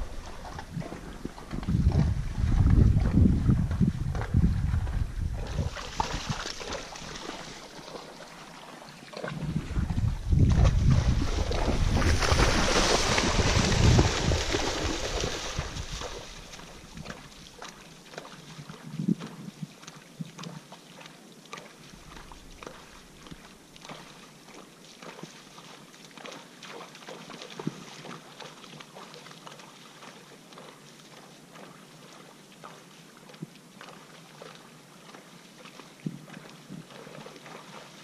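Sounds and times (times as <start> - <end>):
creek water trickling: 0.0 - 38.0
small splashes: 0.0 - 38.0.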